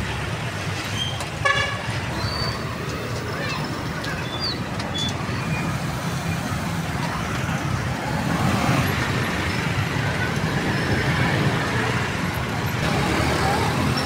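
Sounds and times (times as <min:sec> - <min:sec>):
road traffic passing: 0:00.0 - 0:14.0
voices: 0:02.0 - 0:05.6, 0:06.2 - 0:14.0.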